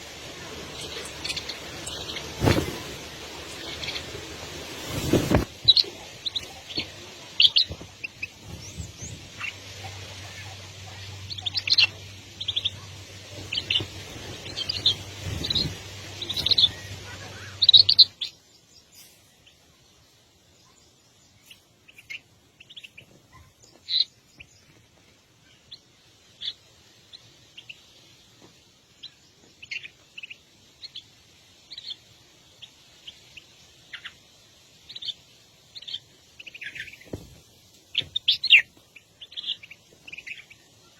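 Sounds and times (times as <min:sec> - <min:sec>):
birds chirping: 0:00.0 - 0:40.9
low hum and hiss: 0:00.0 - 0:40.9.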